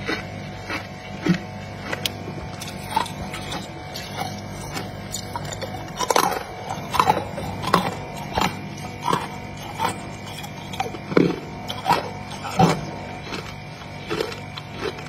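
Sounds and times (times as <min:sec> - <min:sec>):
crunchy chewing of frost: 0:00.0 - 0:15.0
steady low hum: 0:00.0 - 0:15.0.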